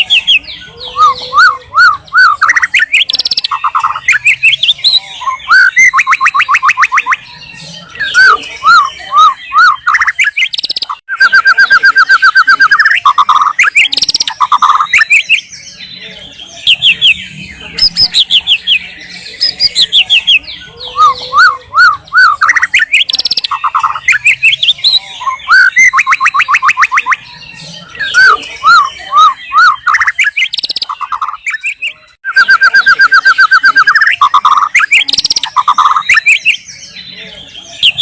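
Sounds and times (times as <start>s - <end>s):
bird singing varied song: 0.0s - 38.0s.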